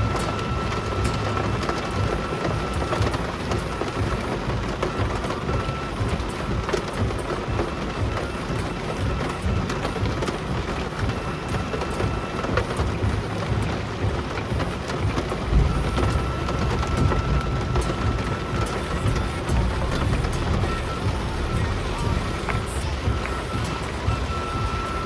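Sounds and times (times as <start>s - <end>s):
heavy rain: 0.0s - 25.0s
vehicle rumbling: 0.0s - 25.0s.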